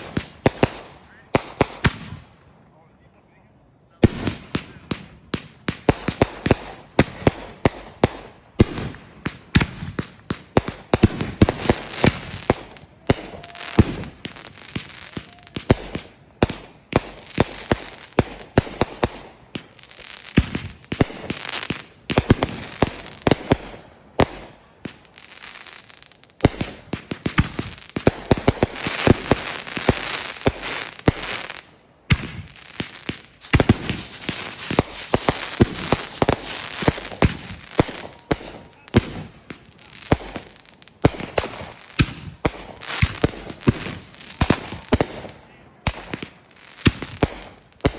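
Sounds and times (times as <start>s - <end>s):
fireworks bangs and pops: 0.0s - 2.2s, 4.0s - 47.9s
fireworks crackling: 0.0s - 2.3s, 4.0s - 47.9s.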